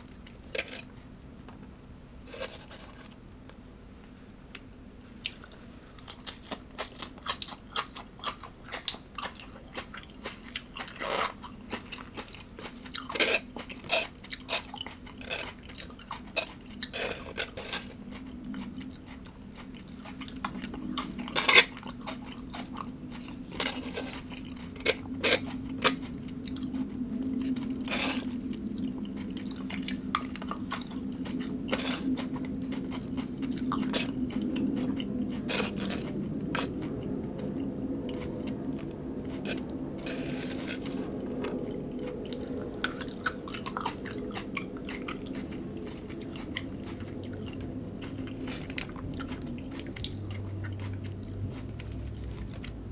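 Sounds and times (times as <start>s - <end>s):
person chewing crunchy food: 0.0s - 1.1s, 2.2s - 3.2s, 5.0s - 52.9s
low steady hum: 0.0s - 52.9s.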